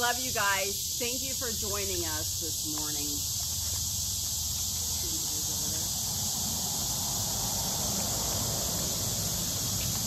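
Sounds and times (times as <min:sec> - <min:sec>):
high insect chorus drone: 0:00.0 - 0:10.0.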